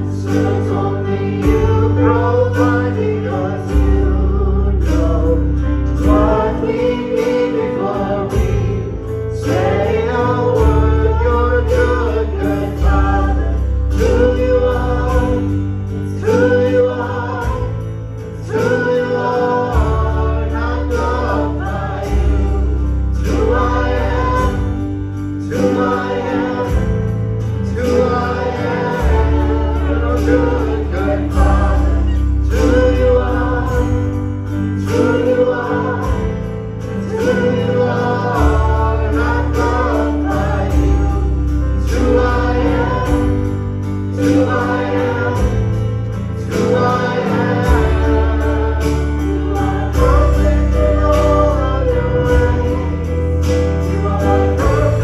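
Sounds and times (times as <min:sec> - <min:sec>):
held bass notes: 0:00.0 - 0:55.0
worship song with band: 0:00.0 - 0:55.0
steady drum beat: 0:00.4 - 0:03.2, 0:06.0 - 0:41.3, 0:41.9 - 0:55.0.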